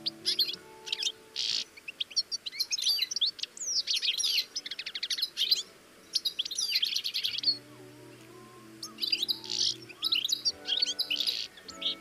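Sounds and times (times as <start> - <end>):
goldfinches twittering: 0.0 - 12.0.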